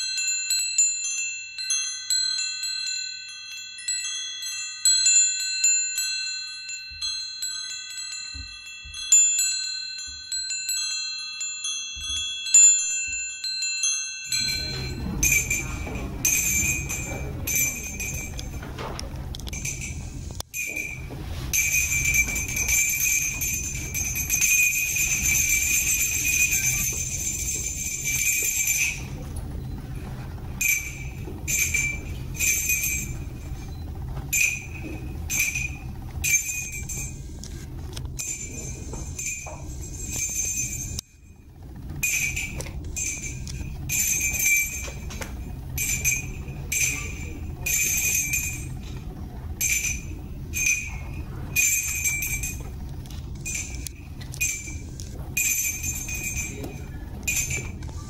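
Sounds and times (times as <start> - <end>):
small jingle bells shaking: 0.0 - 41.4, 42.0 - 58.0.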